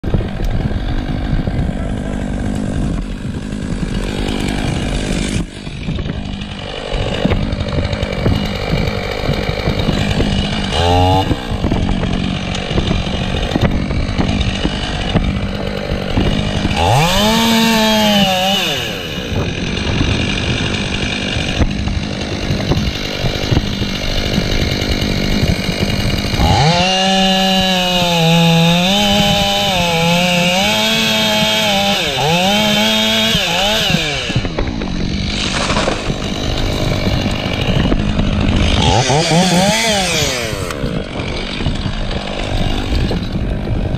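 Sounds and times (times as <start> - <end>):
chainsaw idling and revving: 0.0 - 43.9
wind noise on microphone: 0.0 - 43.9.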